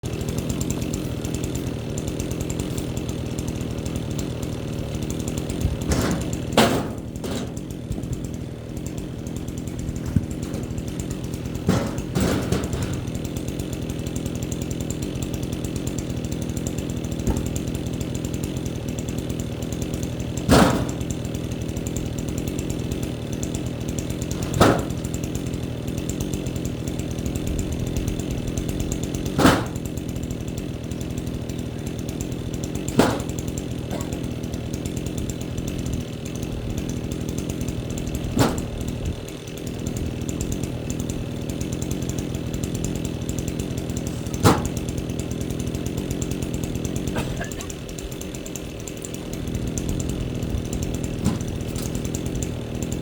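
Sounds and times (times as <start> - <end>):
small engine running: 0.0 - 53.0
wood cracking: 0.1 - 53.0.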